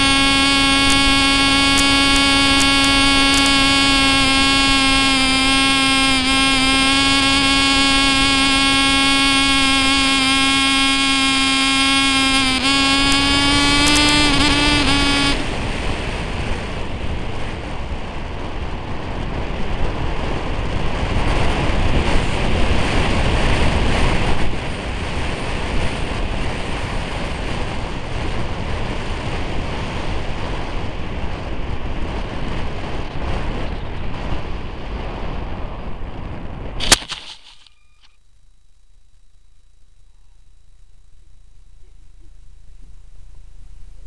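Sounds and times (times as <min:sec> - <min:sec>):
wind rush: 0:00.0 - 0:11.1, 0:11.7 - 0:37.3.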